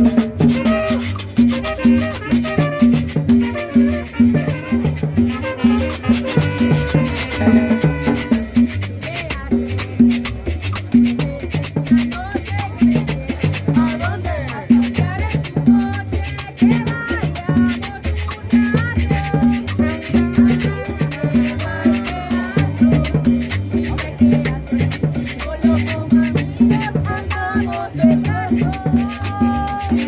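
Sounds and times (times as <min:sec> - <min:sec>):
salsa dance music: 0:00.0 - 0:30.0.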